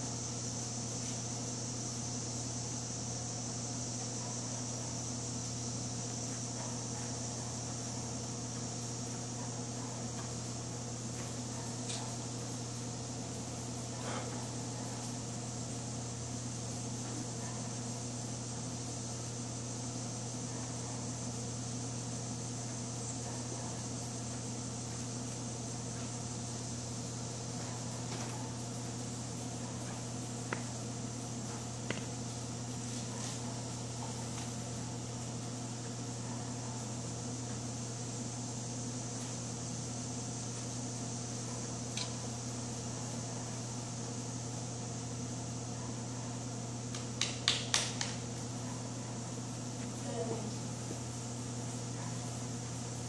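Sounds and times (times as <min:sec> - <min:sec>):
steady mechanical hum with hiss: 0:00.0 - 0:53.0.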